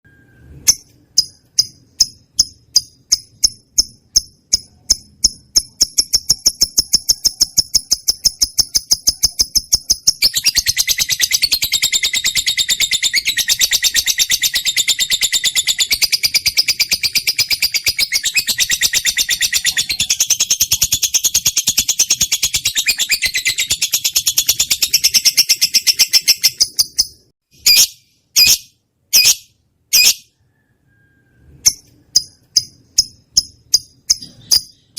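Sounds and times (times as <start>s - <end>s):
lovebird chirping and chattering: 0.6s - 30.4s, 31.6s - 34.9s.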